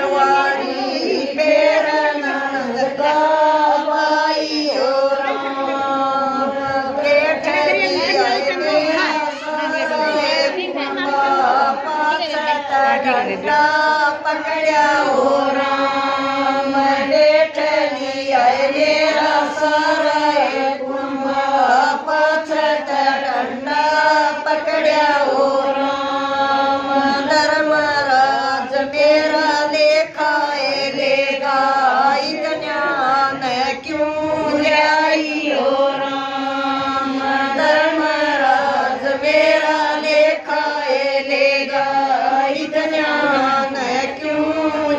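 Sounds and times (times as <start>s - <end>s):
women singing devotional song: 0.0s - 44.9s.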